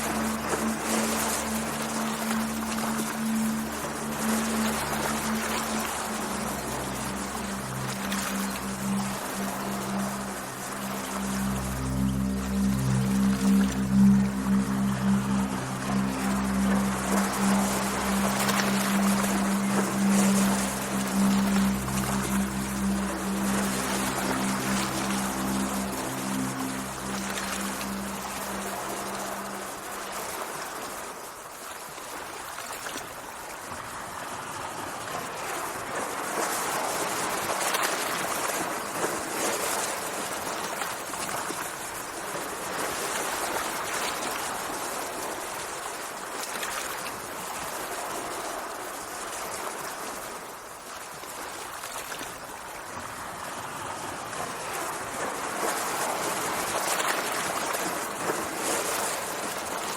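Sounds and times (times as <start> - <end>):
sea water washing and churning: 0.0 - 59.9.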